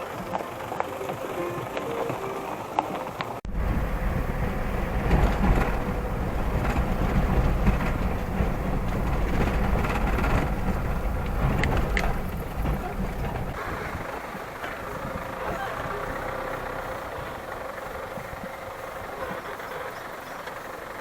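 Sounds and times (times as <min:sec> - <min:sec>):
road and wind noise: 0:00.0 - 0:21.0
vehicle driving rumble: 0:03.0 - 0:21.0.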